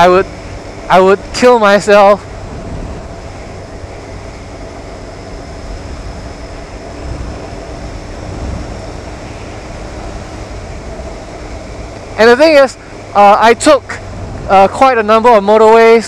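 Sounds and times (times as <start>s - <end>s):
motorcycle engine: 0.0s - 16.0s
wind rush over microphone: 0.3s - 13.2s, 13.8s - 15.2s.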